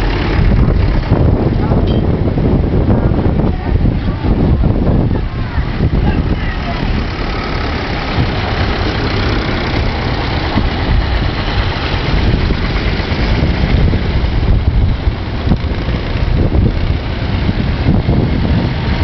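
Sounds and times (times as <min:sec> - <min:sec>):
tractor engines driving past: 0:00.0 - 0:19.0
wind buffeting microphone: 0:00.0 - 0:19.0.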